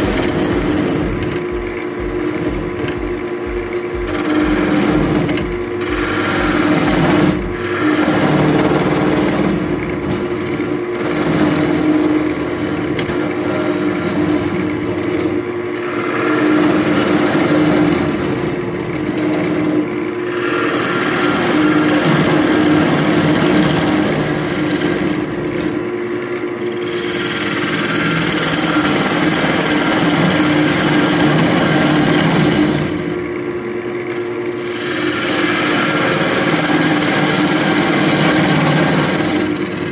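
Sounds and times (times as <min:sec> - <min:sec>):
lathe motor hum: 0:00.0 - 0:39.9
turning tool scraping wood: 0:00.0 - 0:39.9.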